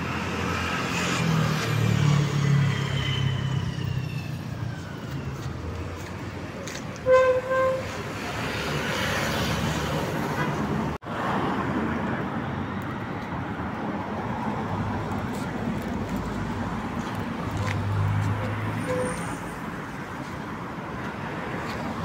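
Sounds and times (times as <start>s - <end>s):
car engines: 0.0s - 7.1s, 7.7s - 22.0s.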